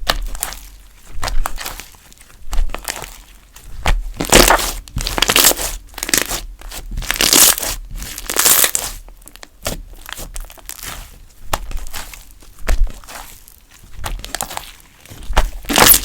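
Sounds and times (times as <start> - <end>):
hands squishing slime: 0.0 - 16.0.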